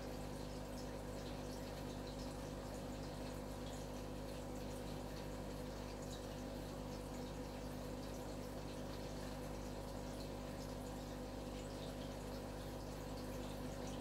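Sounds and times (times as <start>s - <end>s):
aquarium water trickling: 0.0s - 14.0s.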